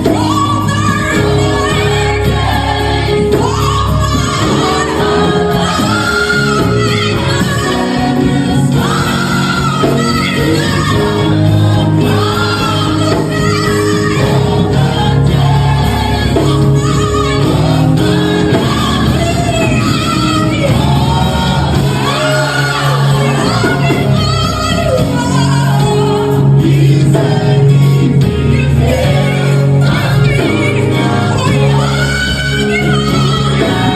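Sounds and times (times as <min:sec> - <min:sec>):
choir singing gospel: 0:00.0 - 0:33.9
instrumental backing: 0:00.0 - 0:33.9.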